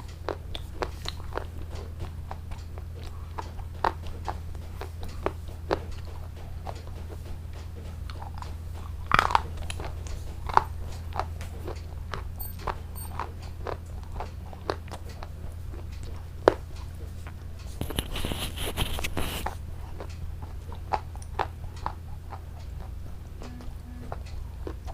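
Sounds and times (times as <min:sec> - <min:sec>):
chewing crunchy food: 0:00.0 - 0:23.5
steady low hum: 0:00.0 - 0:24.9.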